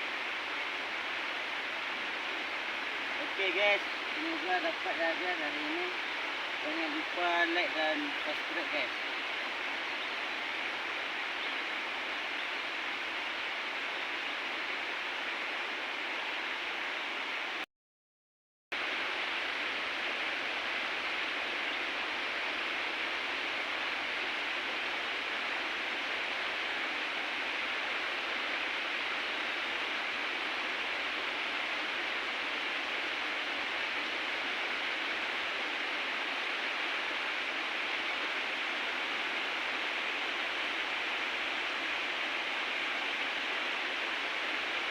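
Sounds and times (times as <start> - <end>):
flowing river water: 0.0 - 17.6, 18.8 - 44.9.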